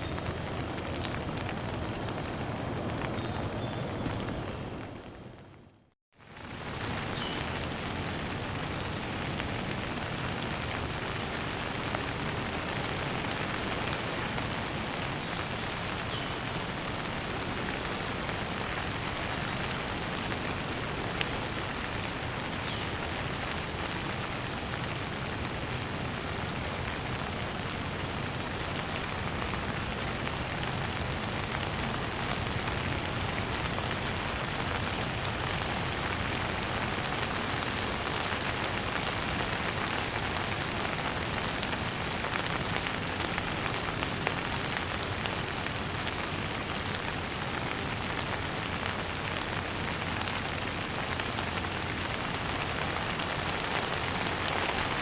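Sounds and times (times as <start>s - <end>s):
gentle rain pattering: 0.0s - 55.0s.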